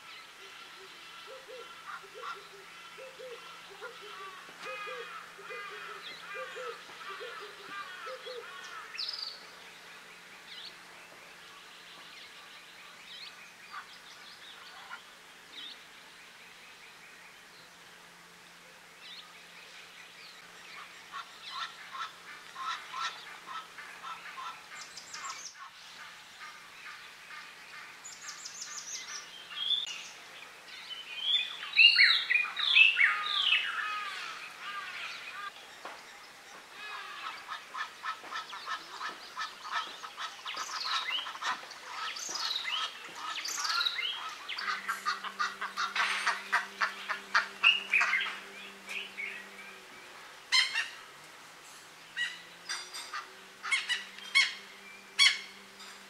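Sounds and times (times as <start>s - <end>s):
chorus of wild birds calling: 0.0s - 56.0s.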